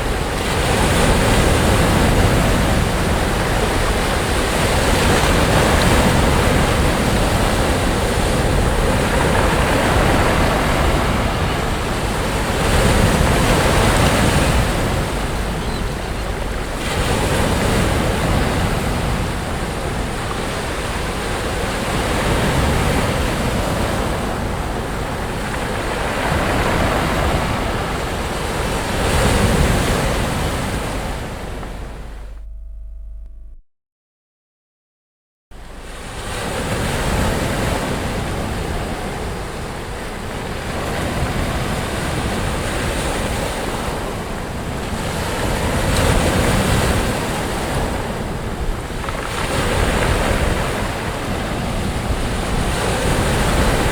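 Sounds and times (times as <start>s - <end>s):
sea waves breaking on a beach: 0.0s - 32.4s, 35.6s - 53.9s
wind rumbling on microphone: 0.0s - 33.6s, 35.6s - 53.9s.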